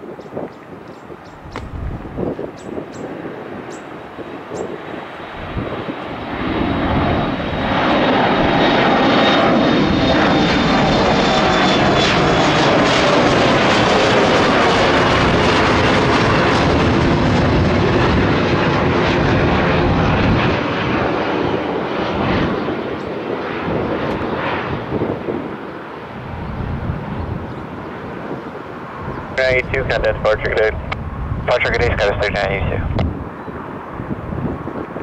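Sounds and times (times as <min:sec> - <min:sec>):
jet engine rush: 0:00.0 - 0:35.0.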